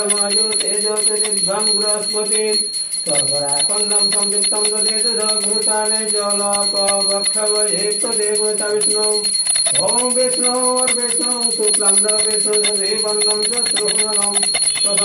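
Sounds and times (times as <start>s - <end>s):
hand bell ringing rapidly: 0.0s - 15.0s.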